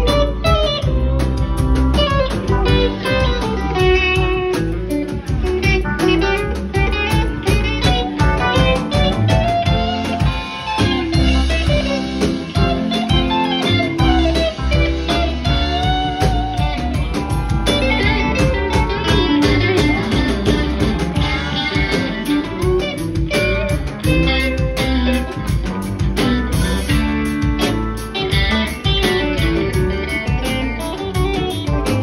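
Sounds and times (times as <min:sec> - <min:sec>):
electric guitar lead lines: 0:00.0 - 0:32.0
live rock band playing: 0:00.0 - 0:32.0.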